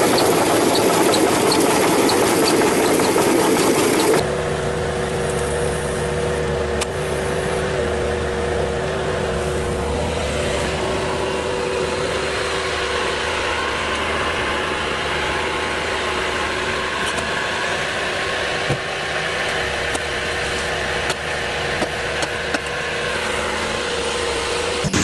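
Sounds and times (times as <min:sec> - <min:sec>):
machine engine running: 0:00.0 - 0:25.0.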